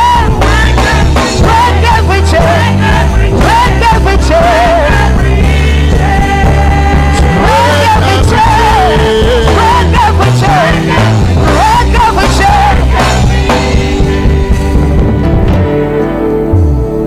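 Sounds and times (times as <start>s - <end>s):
live worship band music: 0.0s - 17.0s.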